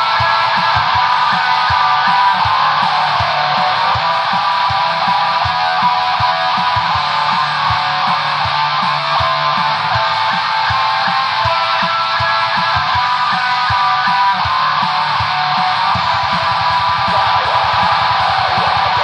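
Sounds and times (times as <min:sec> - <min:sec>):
bass line: 0:00.0 - 0:19.0
distorted electric guitars: 0:00.0 - 0:19.0.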